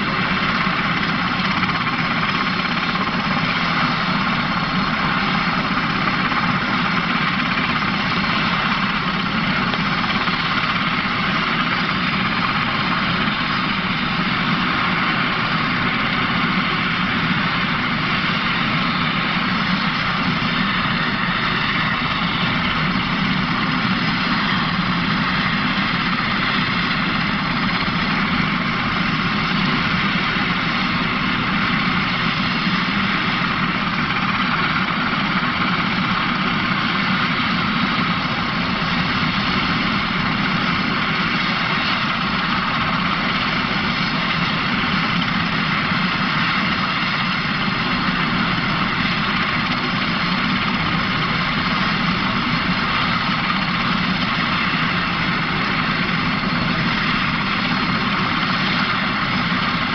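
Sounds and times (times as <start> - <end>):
helicopter engines and rotor: 0.0 - 59.9.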